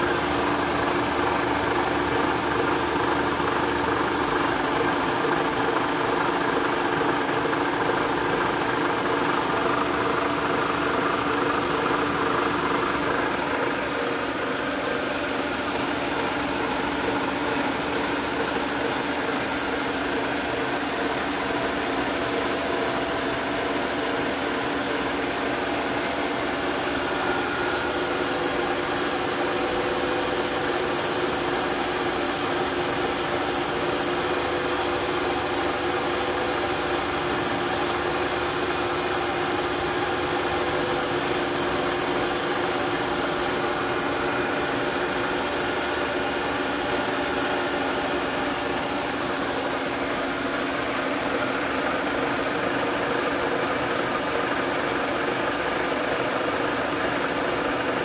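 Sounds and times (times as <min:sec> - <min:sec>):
milling machine hum: 0:00.0 - 0:58.0.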